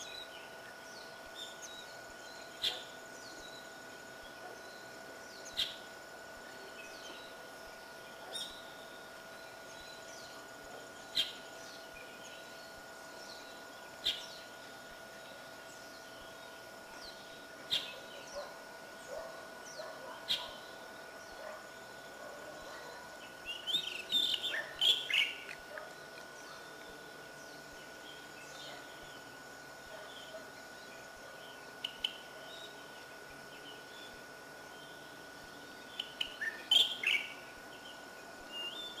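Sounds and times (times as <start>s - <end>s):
birds chirping: 0.0s - 39.0s
thin steady high tone: 0.0s - 39.0s.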